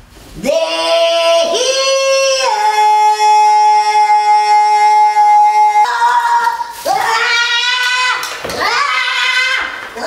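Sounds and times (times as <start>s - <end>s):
woman screaming: 0.6s - 10.0s.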